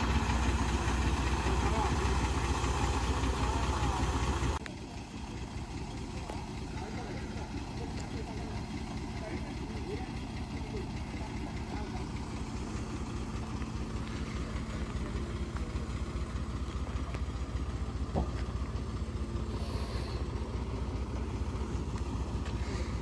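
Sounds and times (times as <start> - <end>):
lorry diesel engine at low revs: 0.0 - 23.0.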